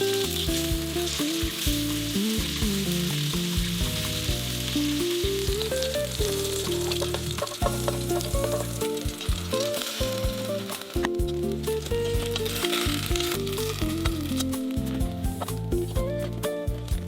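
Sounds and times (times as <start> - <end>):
food frying and sizzling: 0.0 - 17.0
soft instrumental music: 0.0 - 17.0.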